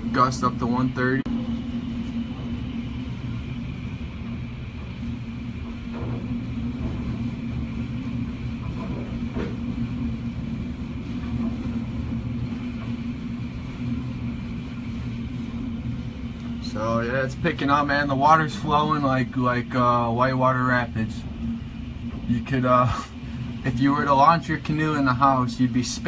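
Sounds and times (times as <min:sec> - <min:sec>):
constant low hum: 0:00.0 - 0:26.0
wind gusts rumbling against house: 0:00.0 - 0:26.0.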